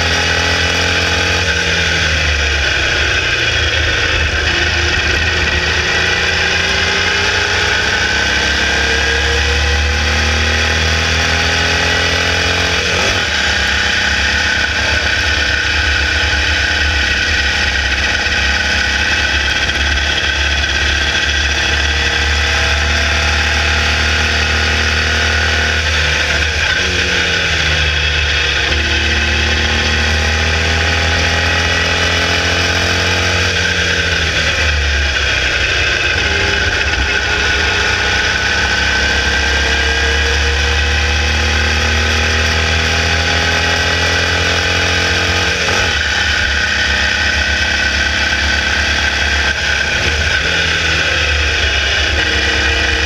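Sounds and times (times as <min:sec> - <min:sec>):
racing car engine at high revs: 0:00.0 - 0:53.0.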